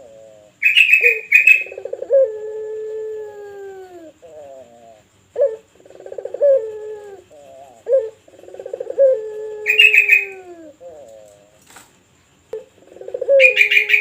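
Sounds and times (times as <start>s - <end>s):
dove cooing: 0.0s - 11.8s, 12.5s - 14.0s
higher chirping: 0.0s - 14.0s.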